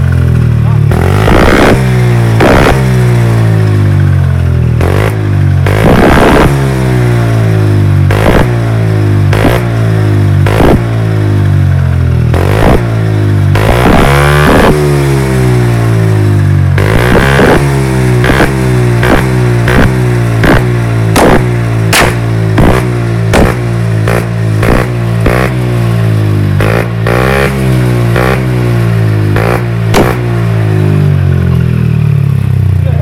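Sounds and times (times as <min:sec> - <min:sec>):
exhaust backfire pops: 0:00.0 - 0:11.5, 0:12.2 - 0:31.8
scooter engine revving: 0:00.0 - 0:33.0.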